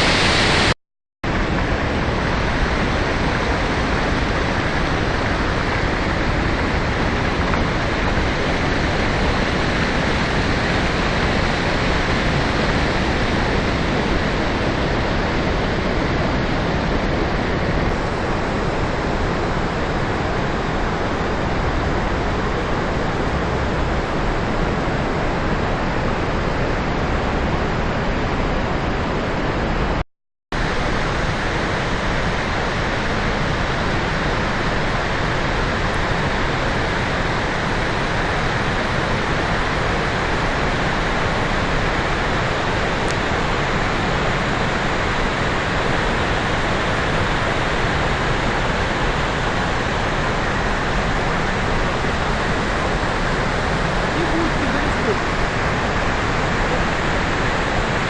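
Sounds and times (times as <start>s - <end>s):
waterfall roaring: 0.0s - 30.0s, 30.6s - 58.0s.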